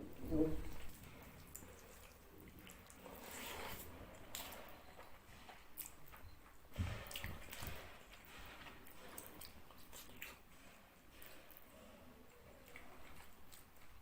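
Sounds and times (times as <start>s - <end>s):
wet chewing: 0.0s - 14.0s.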